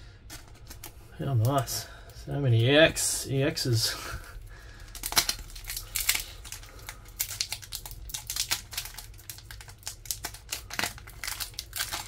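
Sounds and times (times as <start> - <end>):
foil wrapper crinkling: 0.3 - 12.0.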